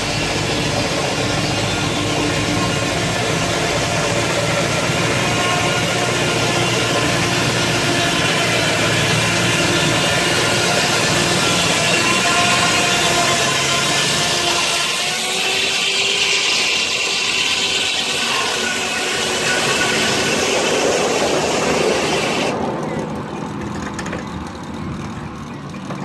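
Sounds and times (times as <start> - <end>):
machinery running: 0.0 - 26.0
saw blade cutting log with whine: 0.0 - 26.0.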